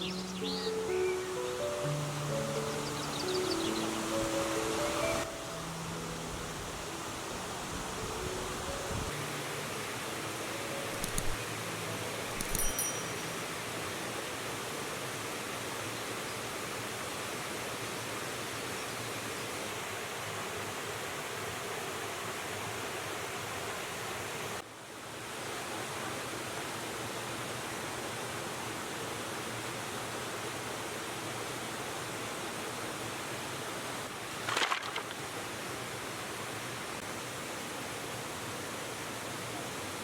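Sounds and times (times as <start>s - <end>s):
river rushing: 0.0s - 40.0s.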